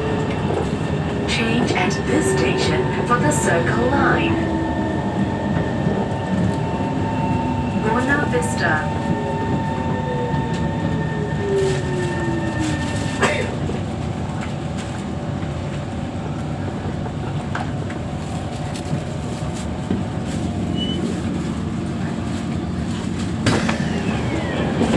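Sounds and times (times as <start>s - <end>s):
low rumble inside train carriage: 0.0s - 24.9s
train traction whine: 0.0s - 24.9s.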